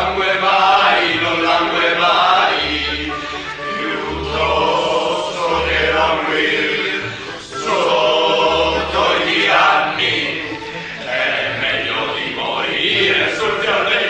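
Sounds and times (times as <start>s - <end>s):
choir singing held notes: 0.0s - 14.0s.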